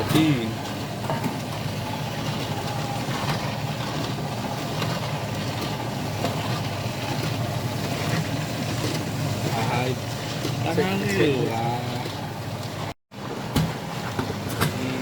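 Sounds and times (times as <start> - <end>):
ice cream machine motor humming: 0.0 - 15.0.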